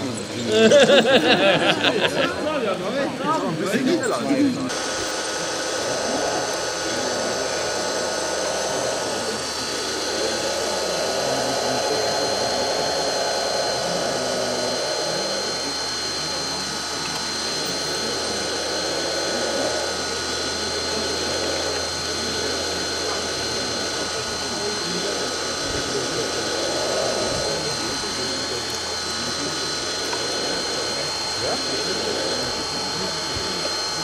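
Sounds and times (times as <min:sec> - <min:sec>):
model excavator motors whining: 0:00.0 - 0:34.0.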